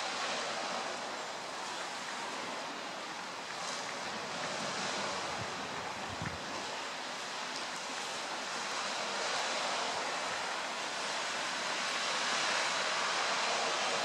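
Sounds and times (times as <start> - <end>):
sea surf rushing: 0.0 - 14.0
wind: 0.0 - 14.0.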